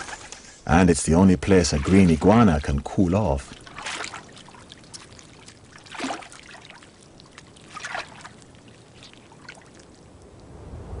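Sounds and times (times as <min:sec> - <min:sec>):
water trickling and splashing: 0:00.0 - 0:10.6.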